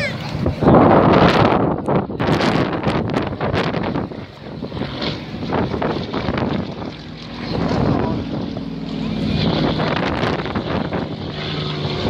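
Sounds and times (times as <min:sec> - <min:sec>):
propeller aircraft flying overhead: 0:00.0 - 0:12.0
wind buffeting microphone: 0:00.0 - 0:12.0.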